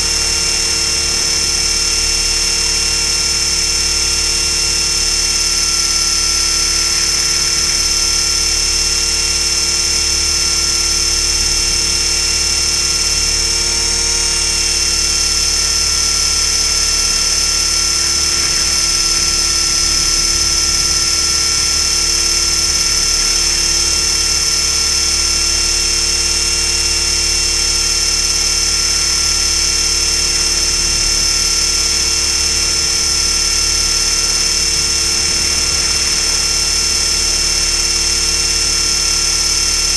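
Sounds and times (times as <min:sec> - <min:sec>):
rc helicopter motor whining: 0:00.0 - 0:39.9.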